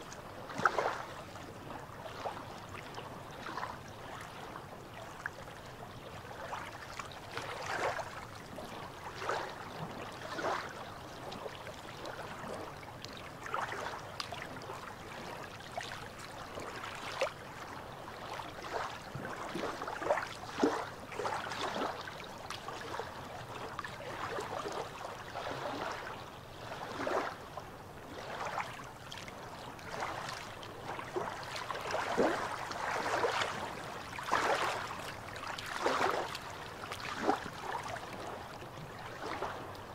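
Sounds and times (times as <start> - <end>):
waves lapping against rocks: 0.0 - 5.2, 6.2 - 39.9
water splashes: 0.0 - 39.9.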